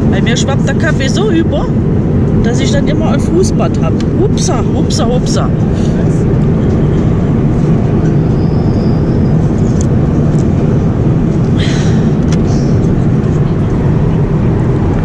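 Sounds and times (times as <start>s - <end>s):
jet airliner cabin drone: 0.0s - 15.0s.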